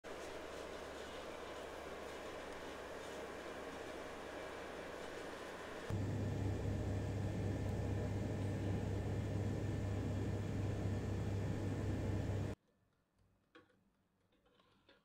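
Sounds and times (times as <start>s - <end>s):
electric appliance humming: 0.1s - 12.6s.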